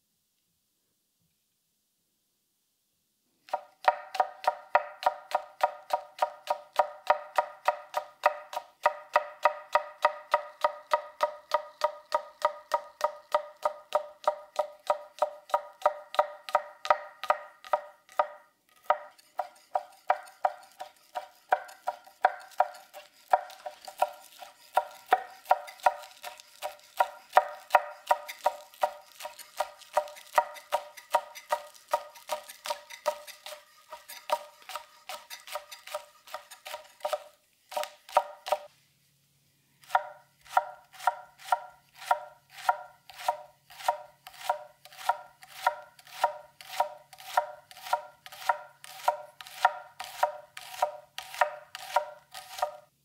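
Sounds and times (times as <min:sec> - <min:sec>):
knife chopping on wooden board: 0:03.5 - 0:38.7, 0:39.9 - 0:52.8.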